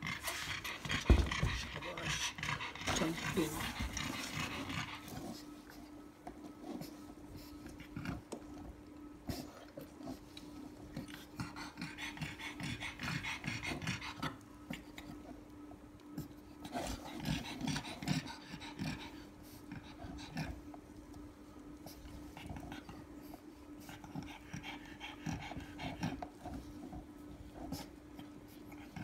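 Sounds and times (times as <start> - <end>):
dog panting: 0.0 - 29.0.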